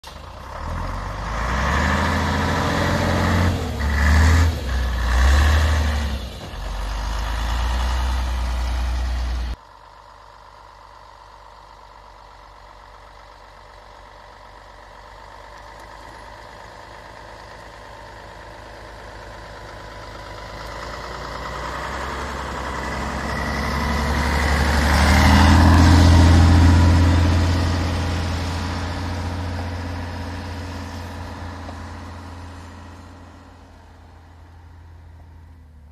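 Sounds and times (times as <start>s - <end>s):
diesel truck engine in snow: 0.0s - 35.9s.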